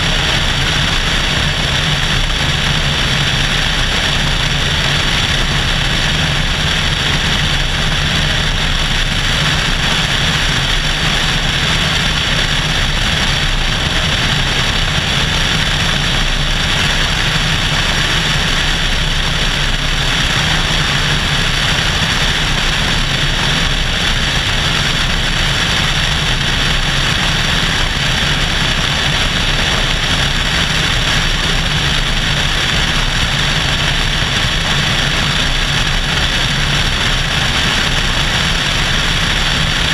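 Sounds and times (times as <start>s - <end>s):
airplane engine and propeller: 0.0s - 39.9s
rushing wind: 0.0s - 39.9s.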